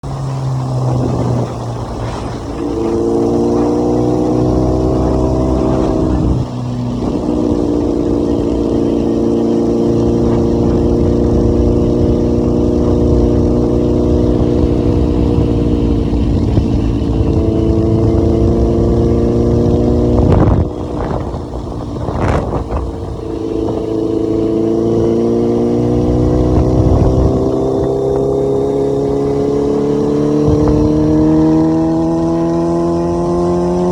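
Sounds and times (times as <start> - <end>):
racing motorcycle engine revving: 0.0 - 33.9.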